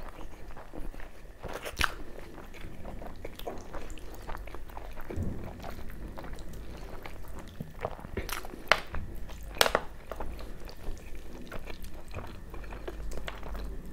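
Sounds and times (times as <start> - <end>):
chewing: 0.0 - 13.9.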